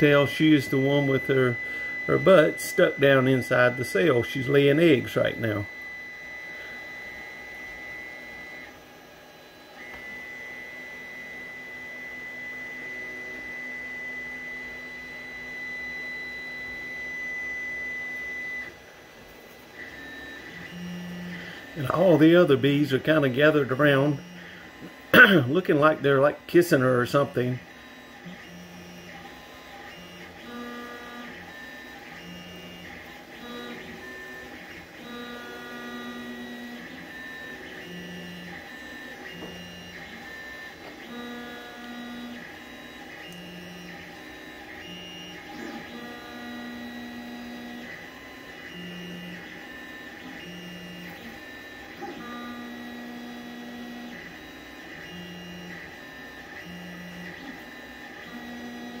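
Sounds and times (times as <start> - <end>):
machine whine in pitched tones: 0.0 - 19.0, 19.7 - 59.0.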